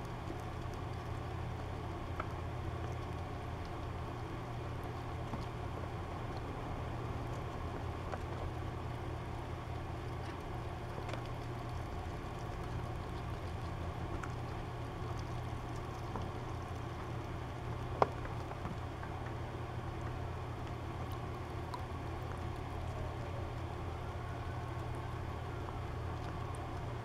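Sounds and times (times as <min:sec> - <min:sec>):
low hum and hiss: 0:00.0 - 0:27.0.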